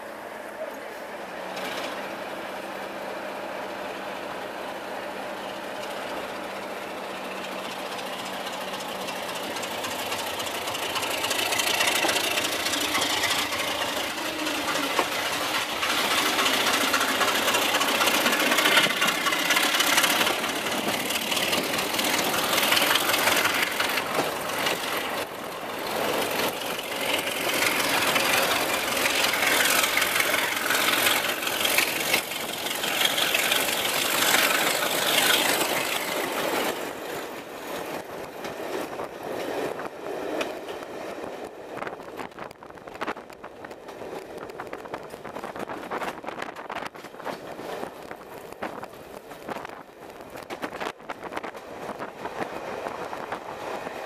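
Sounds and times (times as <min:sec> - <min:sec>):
train passing alongside: 0:00.0 - 0:54.0
train wheels on rails: 0:00.0 - 0:54.0.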